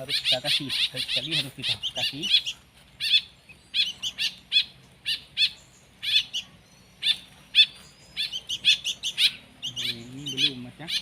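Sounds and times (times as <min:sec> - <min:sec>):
nestling begging chirps: 0:00.0 - 0:11.0.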